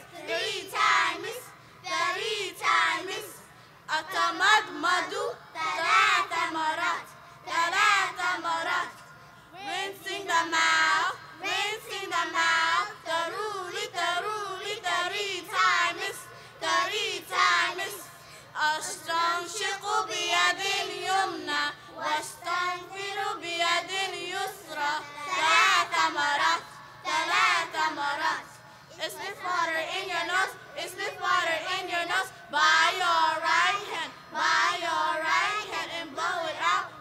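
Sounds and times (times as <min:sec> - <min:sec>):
children singing together: 0:00.0 - 0:09.0, 0:09.6 - 0:37.0.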